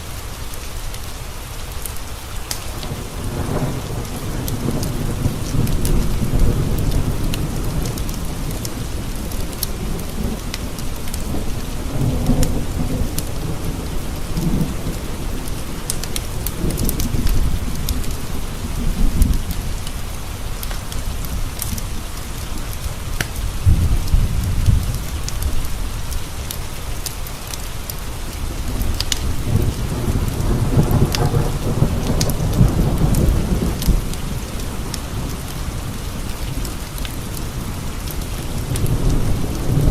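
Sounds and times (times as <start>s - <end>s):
sharp crackles: 0.0s - 39.9s
steady rain: 0.0s - 39.9s
rolling thunder: 2.7s - 27.1s, 27.8s - 39.9s.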